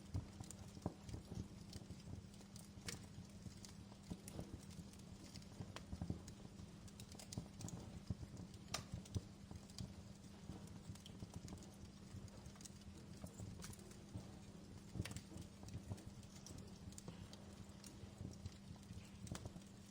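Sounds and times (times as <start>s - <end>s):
low rumble of flames: 0.0s - 19.9s
wood fire crackling and popping: 0.0s - 19.9s.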